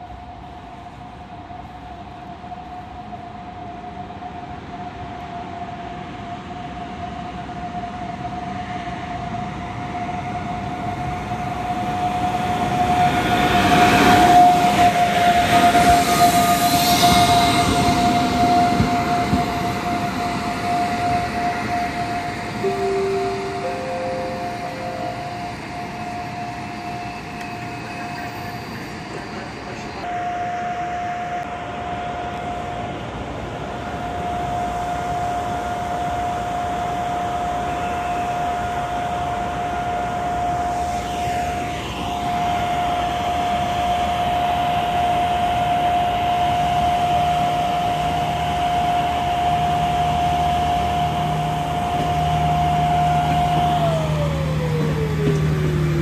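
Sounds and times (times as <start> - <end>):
electric locomotive passing: 0.0 - 56.0.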